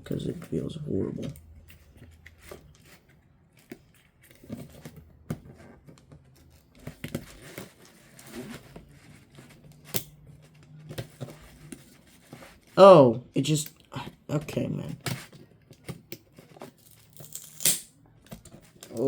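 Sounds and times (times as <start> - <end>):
hands clicking and scraping parts: 0.0 - 12.8, 15.0 - 19.0.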